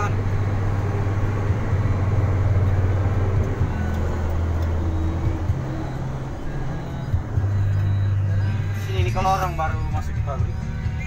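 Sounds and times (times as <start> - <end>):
vehicle engine hum from inside: 0.0 - 11.0.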